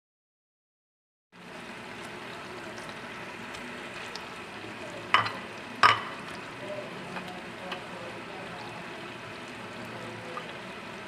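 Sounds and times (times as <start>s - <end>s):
meat sizzling in a pan: 1.4s - 11.0s.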